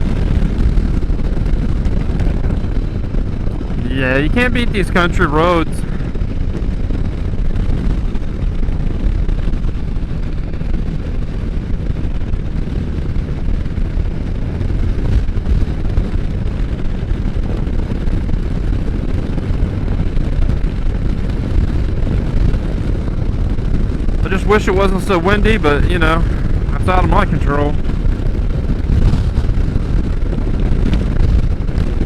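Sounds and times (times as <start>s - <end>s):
motorcycle engine running: 0.0s - 32.0s
road noise: 0.0s - 32.0s
wind on microphone: 0.0s - 32.0s.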